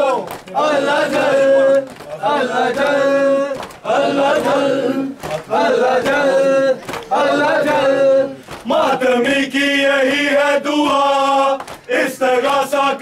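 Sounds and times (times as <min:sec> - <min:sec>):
hands slapping chests: 0:00.0 - 0:09.1, 0:10.8 - 0:12.6
men chanting in unison: 0:00.0 - 0:13.0.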